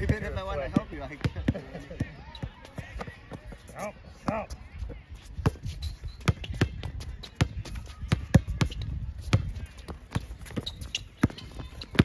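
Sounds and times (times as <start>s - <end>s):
basketball bouncing on hard court: 0.0s - 3.6s, 5.4s - 12.0s.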